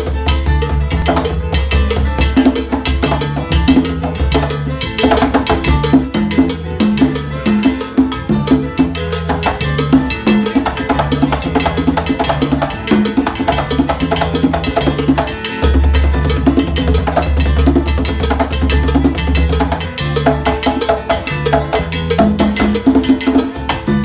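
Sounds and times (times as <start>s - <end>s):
bass line: 0.0s - 24.0s
conga drums played by hand: 0.0s - 24.0s.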